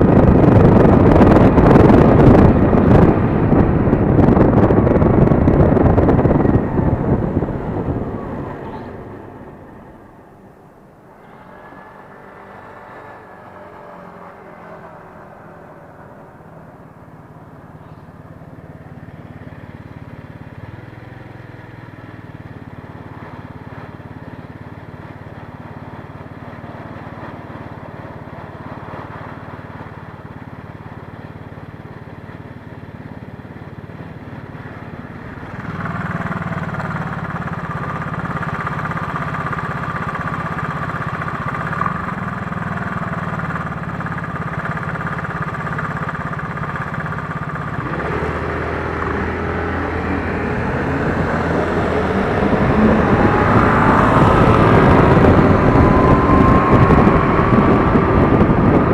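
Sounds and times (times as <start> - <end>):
motorcycle engine close by: 0.0 - 58.9
street traffic: 0.0 - 58.9.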